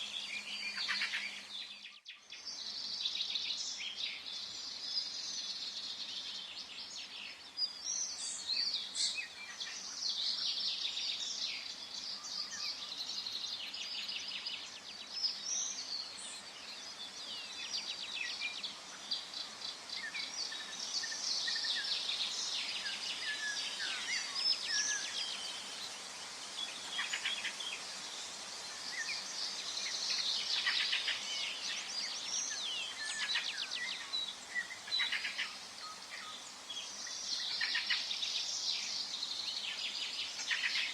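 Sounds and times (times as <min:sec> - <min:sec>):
faint background hiss: 0:00.0 - 0:40.9
forest birds singing: 0:00.0 - 0:40.9.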